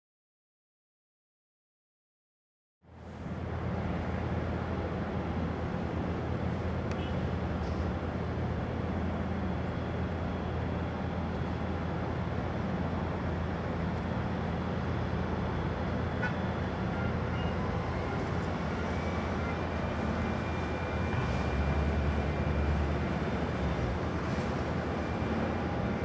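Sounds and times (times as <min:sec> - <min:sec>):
airport ground noise hum: 0:02.9 - 0:26.0
faint high whine: 0:04.8 - 0:26.0.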